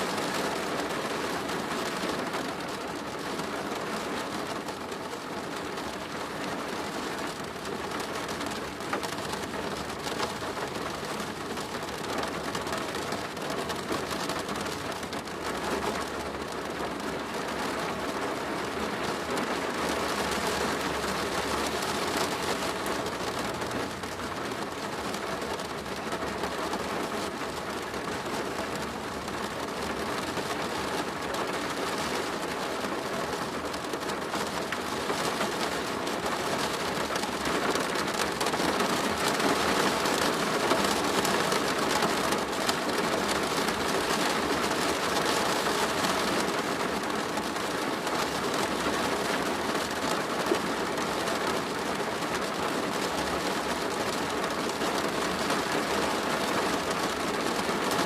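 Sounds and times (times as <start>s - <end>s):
rain drumming on plastic roof: 0.0s - 58.0s.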